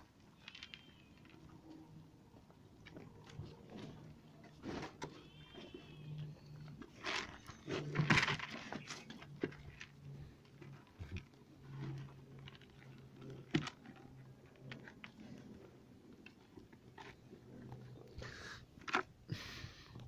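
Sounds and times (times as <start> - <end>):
ram crunching and chewing feed: 0.0 - 20.0.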